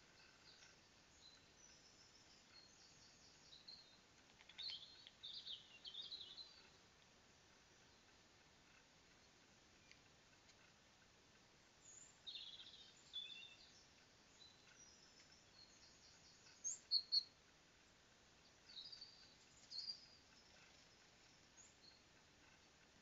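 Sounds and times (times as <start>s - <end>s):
birds chirping: 0.0s - 23.0s
faint steady hiss: 0.0s - 23.0s.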